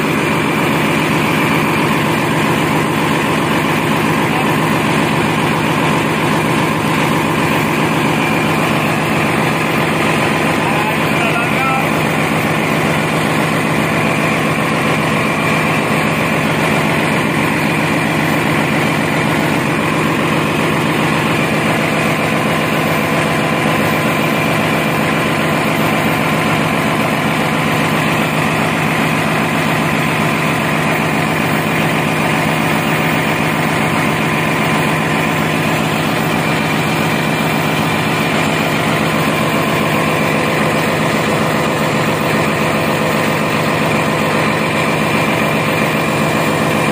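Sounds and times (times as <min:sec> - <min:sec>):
diesel generator engine running: 0:00.0 - 0:46.9.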